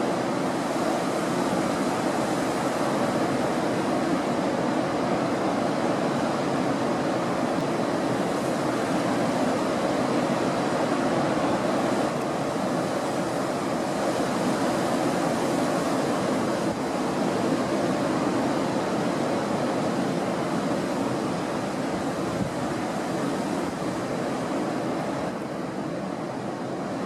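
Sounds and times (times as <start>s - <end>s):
high wind: 0.0s - 27.0s
waves breaking: 0.0s - 27.0s.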